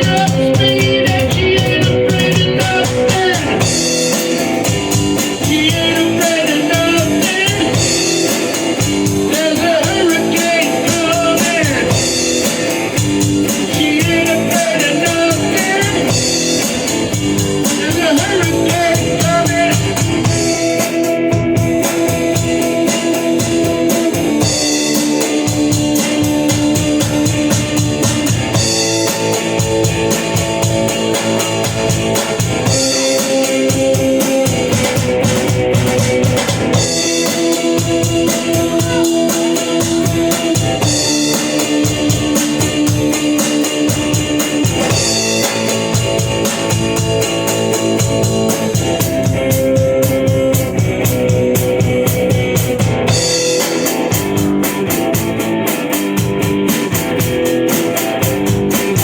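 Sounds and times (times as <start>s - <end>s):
instrumental rock music: 0.0s - 59.0s.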